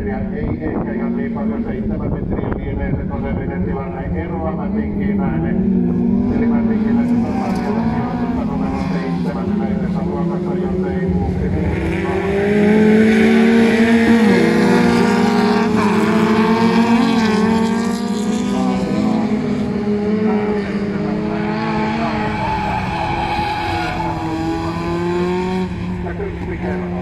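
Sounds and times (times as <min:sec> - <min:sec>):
race car engines at high revs: 0:00.2 - 0:27.0.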